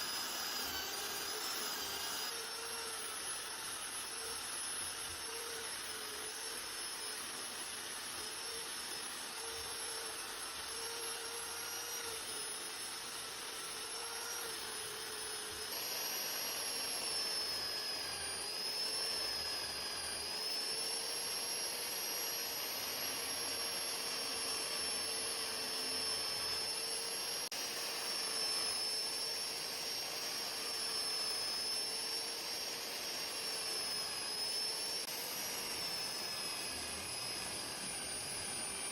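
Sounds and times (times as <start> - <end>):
grinder whining against metal: 0.0 - 38.9.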